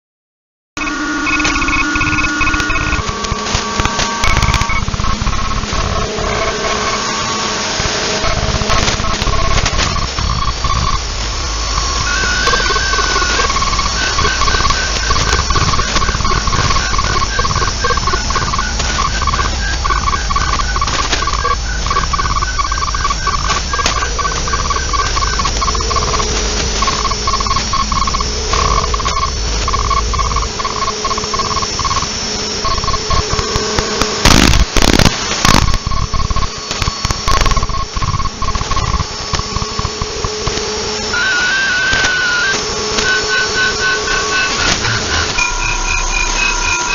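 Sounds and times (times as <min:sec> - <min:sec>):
low drone: 0:00.8 - 0:46.9
pulsing radio signal tones: 0:00.8 - 0:46.9
radio static hiss: 0:00.8 - 0:46.9.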